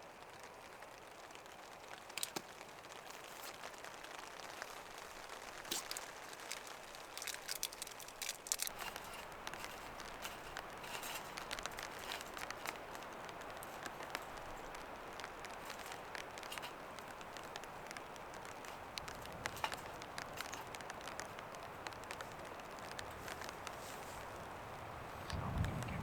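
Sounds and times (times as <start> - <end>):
light rain hissing: 0.0 - 26.0
sharp crackles and crinkling clicks: 0.0 - 26.0.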